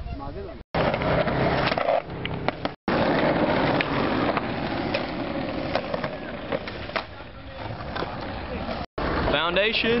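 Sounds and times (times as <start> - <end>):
skateboard wheels rolling on asphalt: 0.8 - 10.0.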